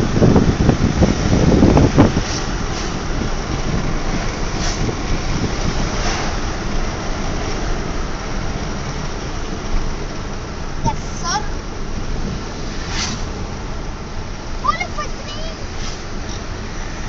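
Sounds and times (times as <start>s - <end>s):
road and wind noise in car: 0.0s - 17.0s.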